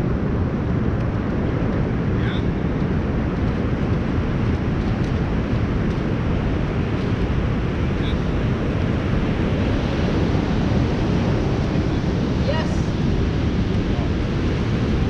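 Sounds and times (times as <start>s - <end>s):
ocean surf on beach: 0.0s - 15.0s
wind buffeting microphone: 0.0s - 15.0s.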